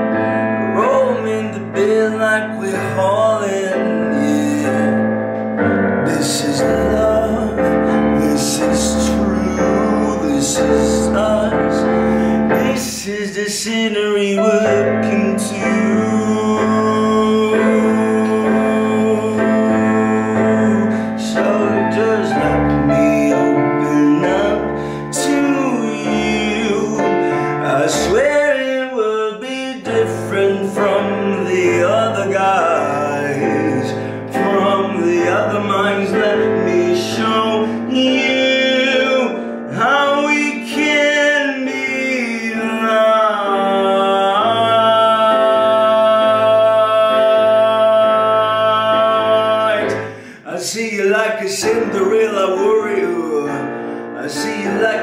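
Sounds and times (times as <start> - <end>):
keyboard chords: 0.0 - 55.0.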